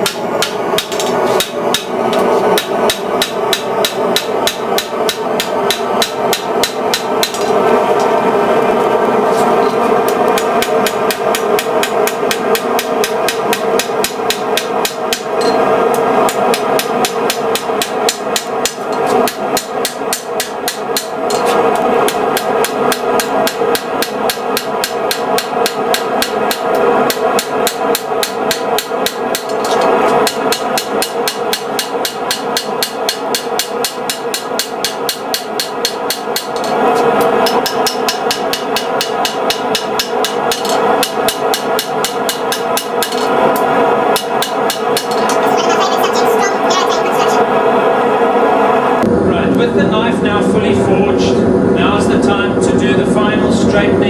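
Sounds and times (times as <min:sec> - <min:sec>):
hammer striking steel on anvil: 0:00.0 - 0:08.1, 0:09.6 - 0:45.4.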